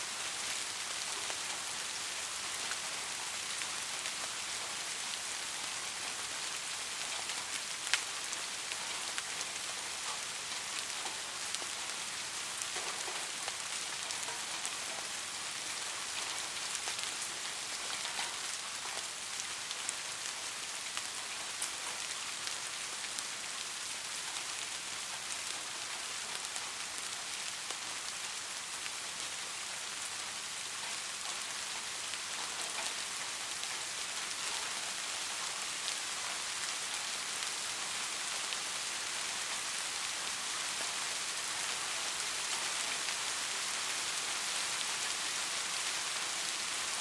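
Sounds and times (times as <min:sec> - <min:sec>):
rain on a hard surface: 0:00.0 - 0:47.0.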